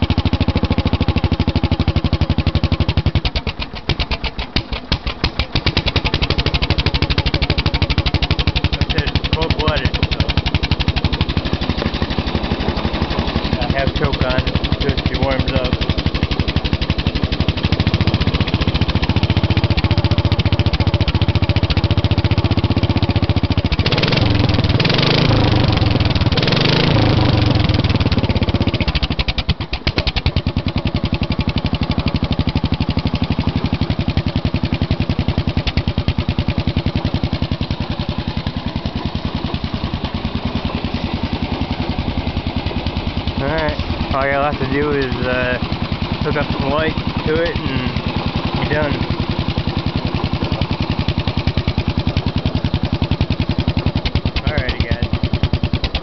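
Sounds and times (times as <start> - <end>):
garden tractor engine revving: 0.0 - 56.0.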